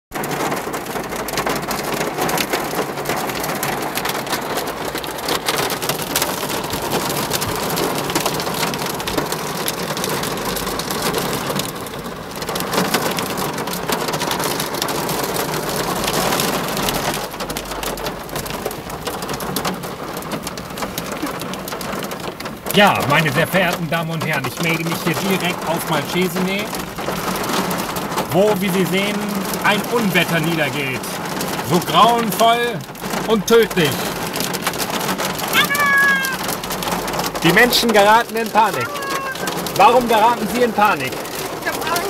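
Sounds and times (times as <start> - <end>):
hail and rain on car roof: 0.1 - 42.0.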